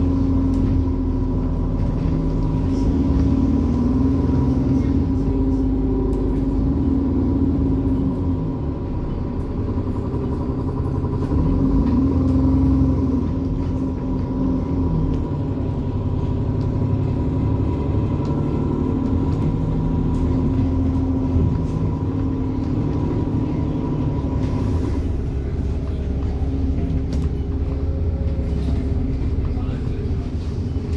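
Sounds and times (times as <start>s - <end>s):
bus diesel engine running: 0.0s - 30.9s.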